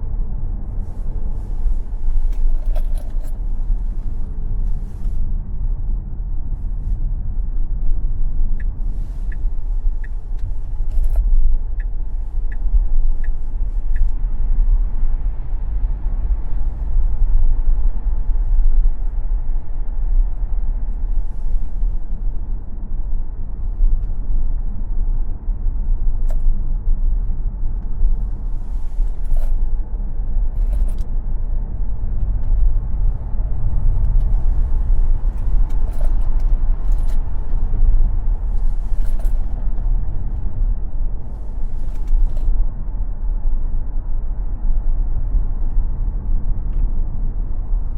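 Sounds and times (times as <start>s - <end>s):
tyre and road noise: 0.0s - 47.9s.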